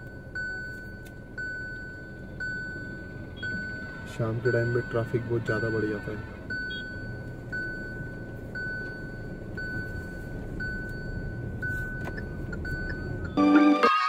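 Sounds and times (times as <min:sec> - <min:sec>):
dashboard warning chime: 0:00.0 - 0:14.0
road and engine rumble: 0:00.0 - 0:14.0.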